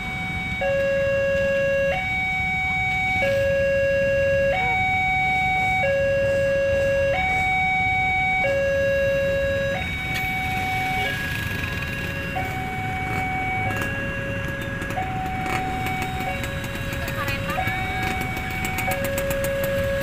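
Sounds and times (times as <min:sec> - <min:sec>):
level crossing two-tone alarm: 0:00.0 - 0:20.0.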